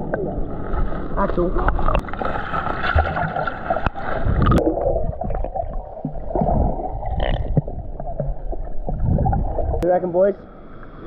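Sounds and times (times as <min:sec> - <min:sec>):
muffled water gurgling: 0:00.0 - 0:11.0.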